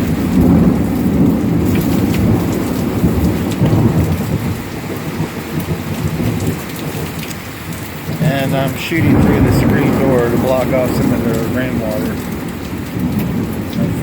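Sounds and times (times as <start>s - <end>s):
rain falling: 0.0s - 14.0s
thunder rumbling: 0.0s - 14.0s.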